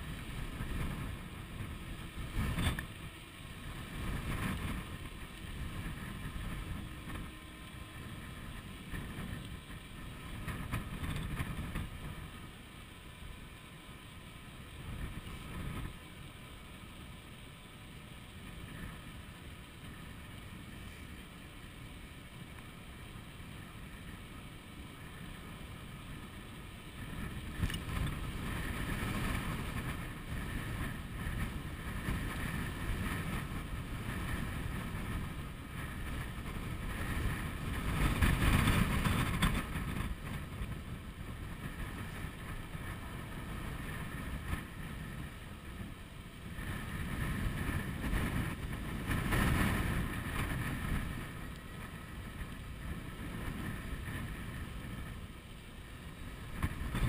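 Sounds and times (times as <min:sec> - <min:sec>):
wind buffeting microphone: 0:00.0 - 0:13.4, 0:14.0 - 0:16.3, 0:18.3 - 0:57.0
steady whine: 0:00.0 - 0:57.0.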